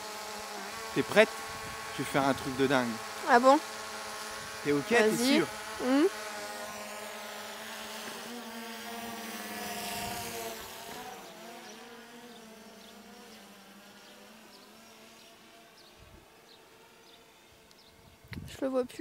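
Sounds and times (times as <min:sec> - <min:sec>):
drone propellers buzzing: 0:00.0 - 0:18.5.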